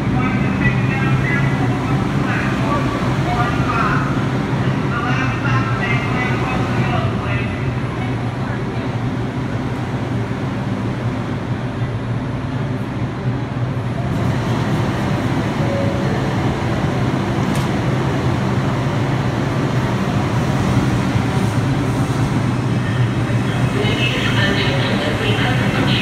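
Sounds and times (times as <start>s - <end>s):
subway train low hum: 0.0s - 26.0s.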